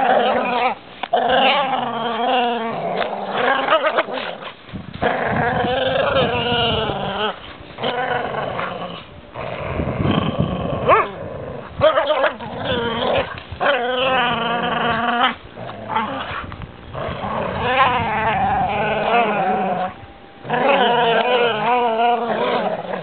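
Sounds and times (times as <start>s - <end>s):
dogs growling: 0.0s - 23.0s.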